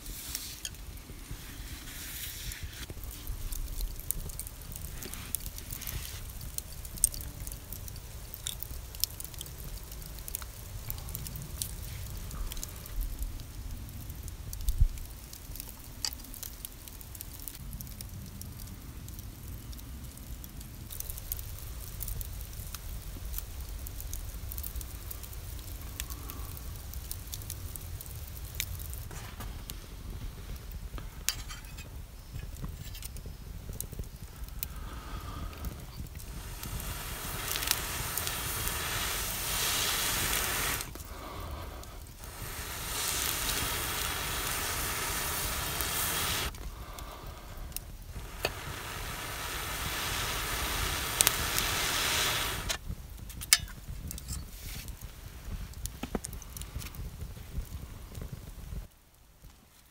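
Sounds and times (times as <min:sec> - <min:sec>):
wood campfire crackling: 0:00.0 - 0:59.9.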